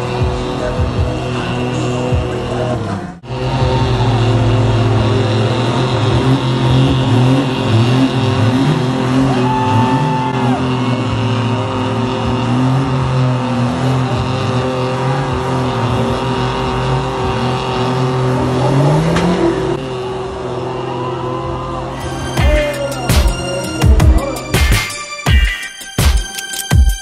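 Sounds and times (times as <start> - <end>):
truck engine running hard: 0.0 - 27.0.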